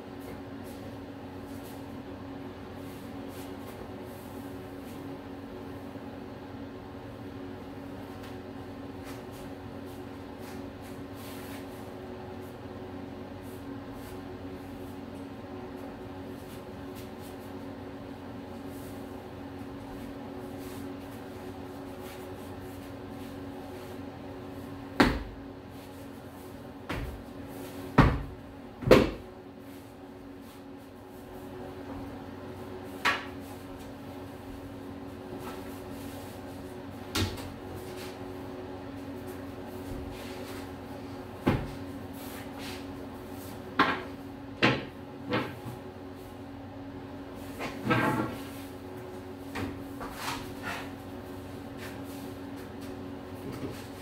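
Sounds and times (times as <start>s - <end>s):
low room hum: 0.0s - 54.0s.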